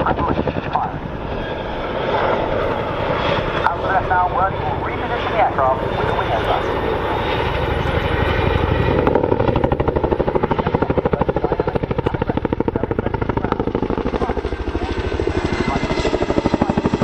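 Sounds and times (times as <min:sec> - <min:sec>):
helicopter rotor blade slap: 0:02.1 - 0:17.0.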